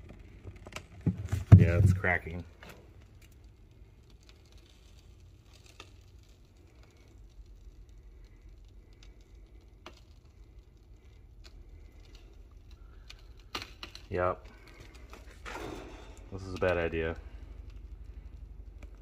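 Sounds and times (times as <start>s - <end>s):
faint wall cracks and ticks: 0.0s - 19.0s.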